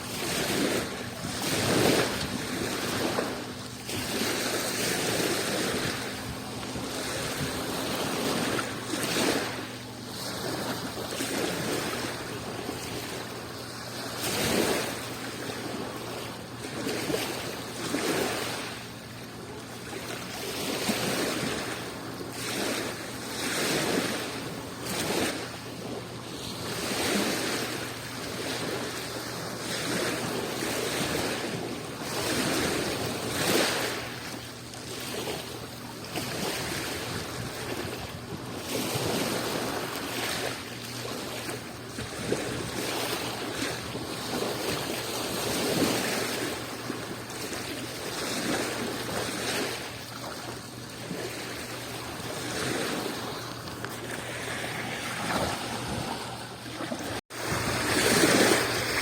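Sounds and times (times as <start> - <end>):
small waves washing onto shore: 0.0 - 59.0.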